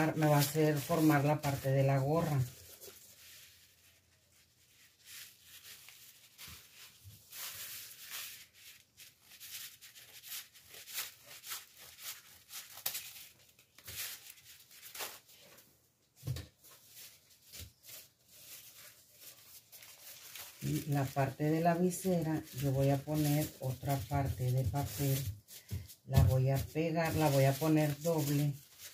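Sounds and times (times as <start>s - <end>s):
crepe paper rustling: 0.0s - 28.9s.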